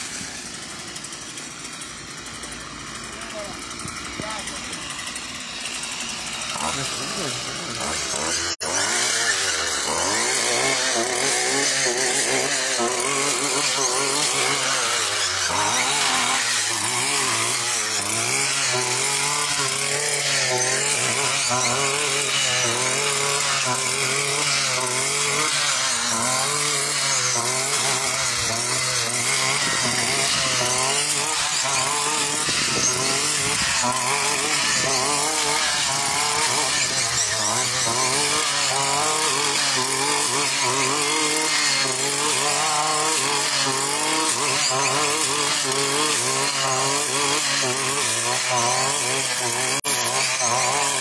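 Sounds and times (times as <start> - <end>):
brush cutter engine cutting grass: 0.0 - 51.0.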